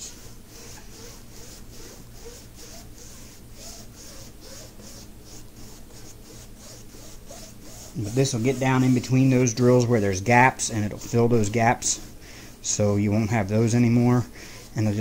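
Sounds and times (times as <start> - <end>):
foam brush rubbing back and forth: 0.0 - 15.0.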